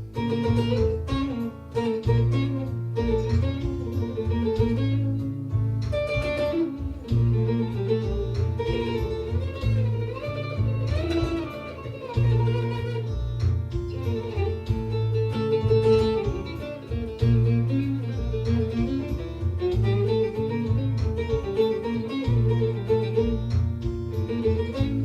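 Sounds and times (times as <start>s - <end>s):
low sustained bass notes: 0.0s - 25.0s
plucked lute melody: 0.0s - 25.0s.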